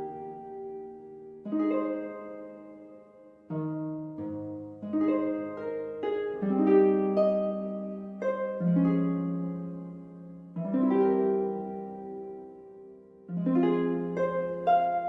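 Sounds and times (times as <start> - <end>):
gentle plucked-string music: 0.0 - 15.0.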